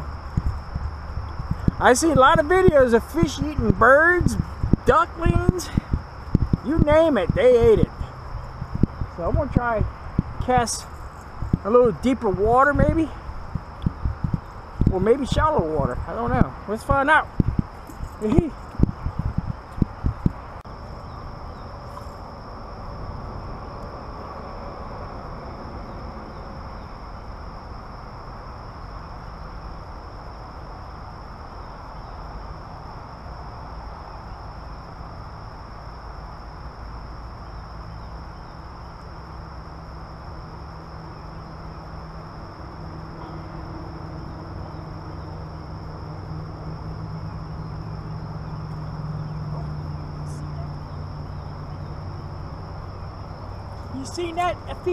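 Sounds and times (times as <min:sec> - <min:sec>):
insects buzzing: 0:00.0 - 0:54.9
low hum: 0:00.0 - 0:54.9
rushing outdoor background: 0:00.0 - 0:54.9.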